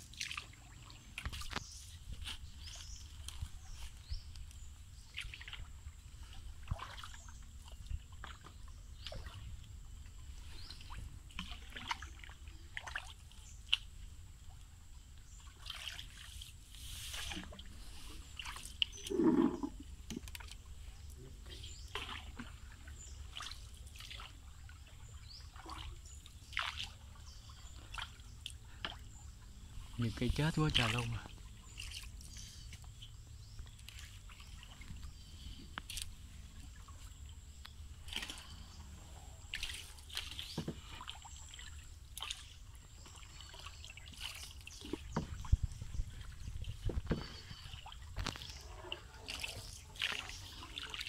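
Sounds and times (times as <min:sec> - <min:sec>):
paddle splashing in water: 0:00.0 - 0:51.0.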